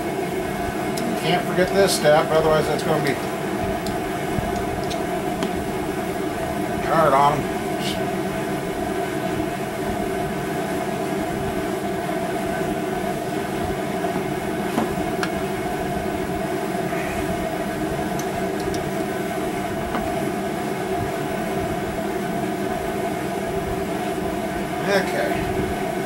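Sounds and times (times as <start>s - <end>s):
shop equipment hum: 0.0s - 26.0s.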